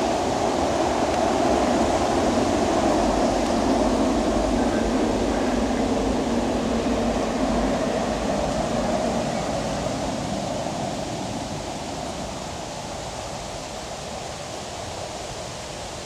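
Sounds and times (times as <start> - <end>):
train rumbling across steel bridge: 0.0 - 15.9.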